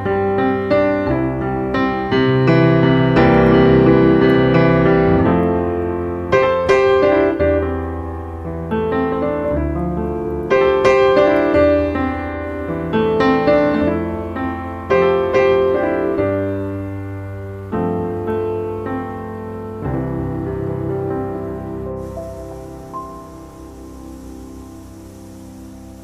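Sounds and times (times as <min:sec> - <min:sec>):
piano music: 0:00.0 - 0:26.0
low bass notes: 0:01.0 - 0:26.0.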